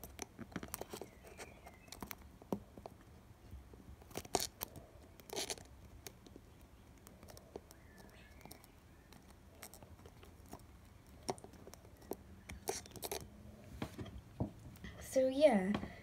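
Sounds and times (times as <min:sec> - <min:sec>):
fingers handling cake decoration: 0:00.0 - 0:14.9.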